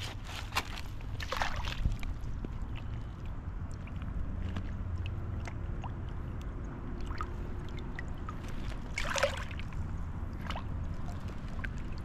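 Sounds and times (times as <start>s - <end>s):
steady low rumble: 0.0s - 12.0s
fish splashing in water: 0.2s - 12.0s
water drips and trickles: 0.2s - 12.0s.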